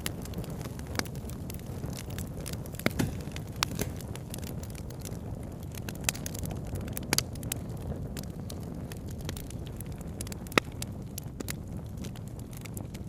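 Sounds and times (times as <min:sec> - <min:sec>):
burning wood popping and snapping: 0:00.0 - 0:13.0
low fire rumble: 0:00.0 - 0:13.0.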